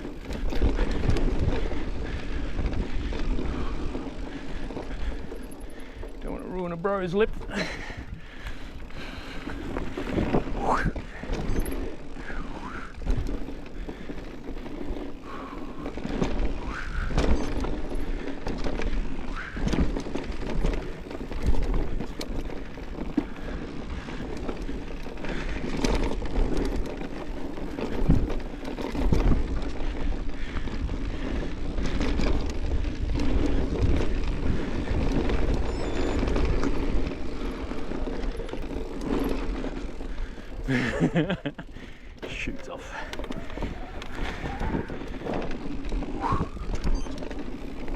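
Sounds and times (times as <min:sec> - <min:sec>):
bike knocking and rattling: 0:00.0 - 0:47.9
bike tyres on dirt trail: 0:00.0 - 0:47.9.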